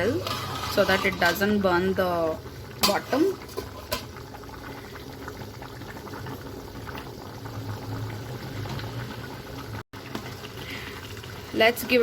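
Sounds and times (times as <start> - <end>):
pot boiling with pops: 0.0 - 12.0.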